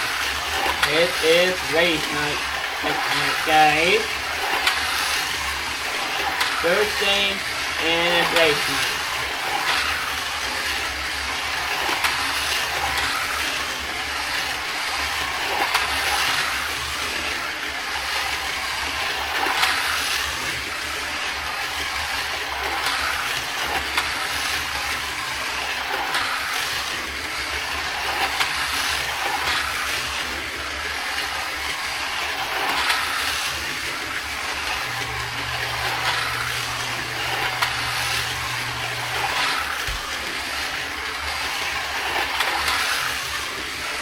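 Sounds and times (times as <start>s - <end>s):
slot car motors whirring: 0.0s - 44.0s.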